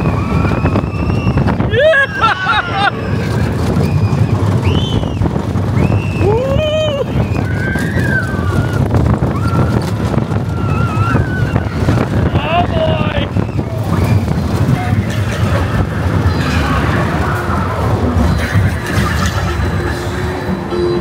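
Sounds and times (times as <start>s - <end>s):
riders whooping and screaming: 0.0s - 20.4s
wind rushing on microphone: 0.0s - 21.0s.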